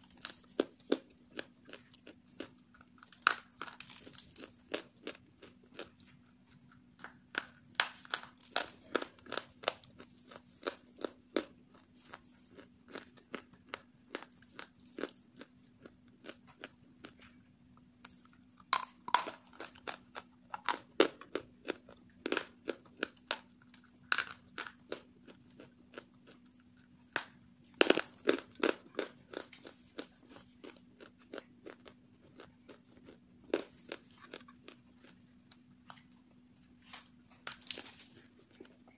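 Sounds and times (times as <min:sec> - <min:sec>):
clay crunching as chewed: 0:00.0 - 0:38.9.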